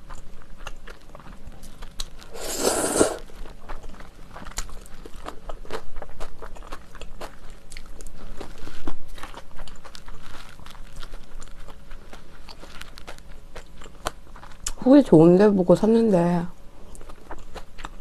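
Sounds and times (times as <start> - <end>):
close chewing with crunches: 0.0 - 15.9, 16.5 - 18.0.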